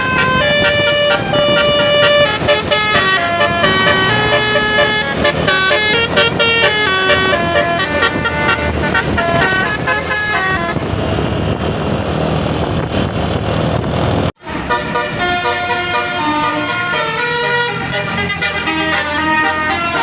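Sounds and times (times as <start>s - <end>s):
bus air horns playing melody: 0.0s - 11.0s, 14.4s - 20.0s.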